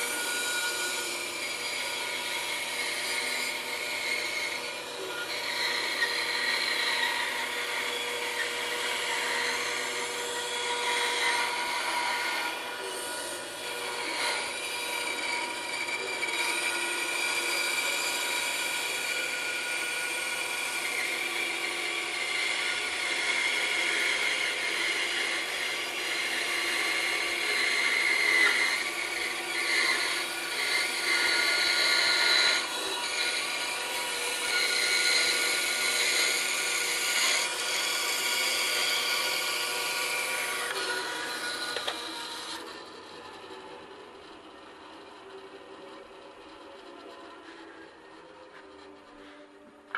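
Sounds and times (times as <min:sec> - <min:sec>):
bandsaw cutting wood: 0:00.0 - 0:43.5.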